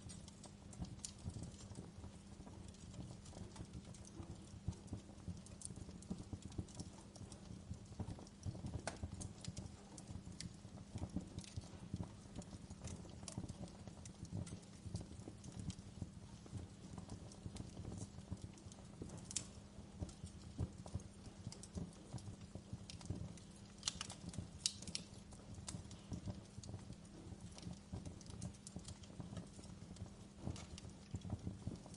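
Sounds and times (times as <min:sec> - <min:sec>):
fire crackling and popping: 0:00.0 - 0:31.9.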